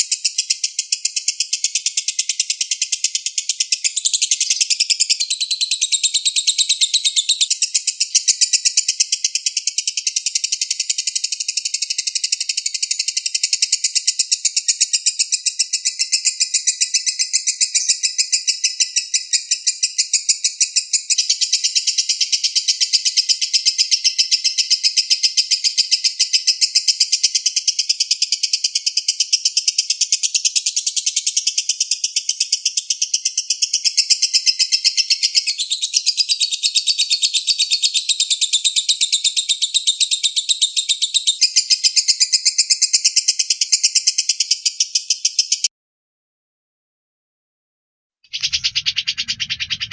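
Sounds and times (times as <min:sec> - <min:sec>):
songbird rapid chirping trill: 0:00.0 - 0:45.7, 0:48.3 - 0:49.9.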